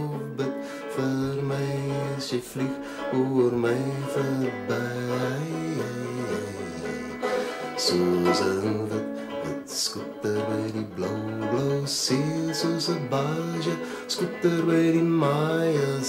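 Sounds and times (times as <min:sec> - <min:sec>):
banjo plucking: 0:00.0 - 0:16.0
man singing: 0:00.0 - 0:16.0.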